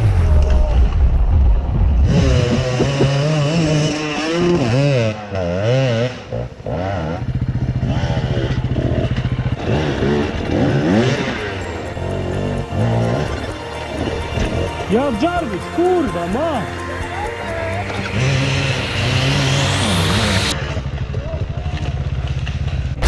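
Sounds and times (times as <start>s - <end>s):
dirt bike engines revving: 2.0s - 23.0s.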